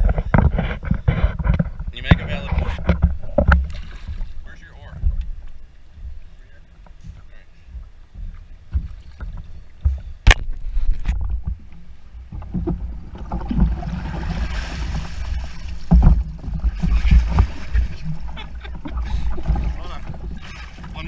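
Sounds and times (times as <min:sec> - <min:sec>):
hull and gear thumping: 0:00.0 - 0:21.0
water sloshing and splashing: 0:00.0 - 0:21.0.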